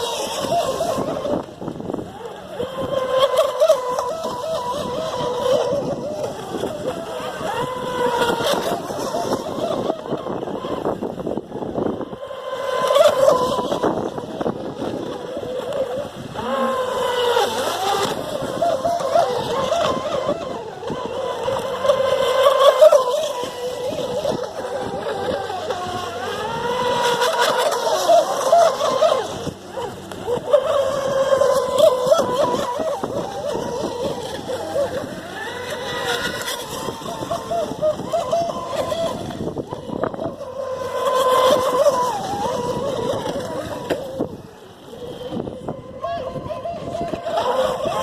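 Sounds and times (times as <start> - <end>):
rc boat electric motors whining: 0.0 - 48.0.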